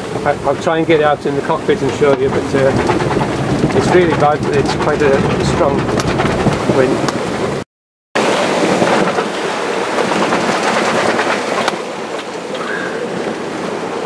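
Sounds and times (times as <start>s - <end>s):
breaking sea rushing: 0.0s - 7.6s, 8.2s - 14.0s
strong wind: 0.0s - 7.6s, 8.2s - 14.0s.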